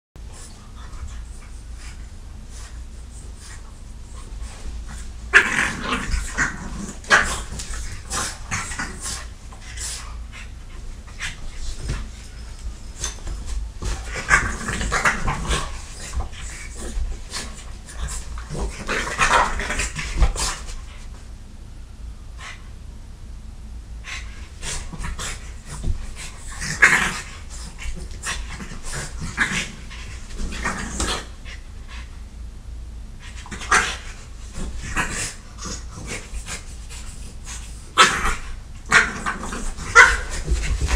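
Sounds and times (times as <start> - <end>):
dogs tussling and scuffling: 0.2 - 21.2, 24.2 - 31.6, 33.2 - 40.9.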